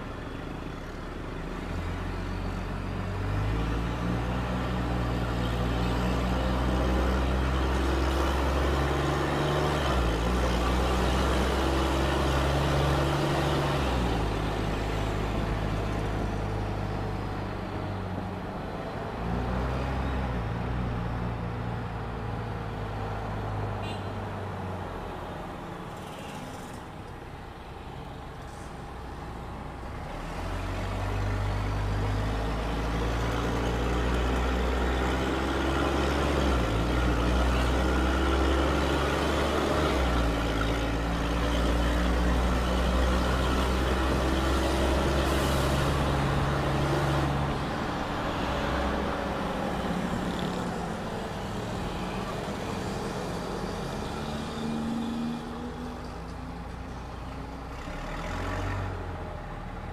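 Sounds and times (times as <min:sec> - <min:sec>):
bus engine pulling under load: 0:00.0 - 0:59.9.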